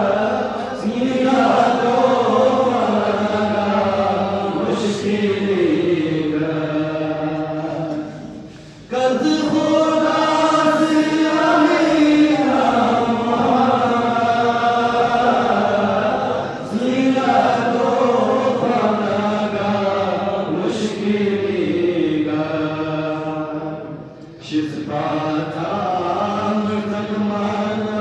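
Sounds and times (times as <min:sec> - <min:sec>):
men chanting together: 0:00.0 - 0:28.0.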